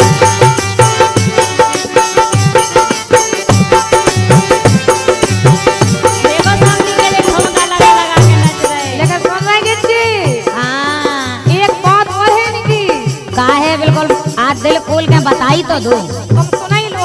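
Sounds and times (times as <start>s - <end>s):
hand drum beat: 0.0s - 17.0s
rattling percussion: 0.0s - 17.0s.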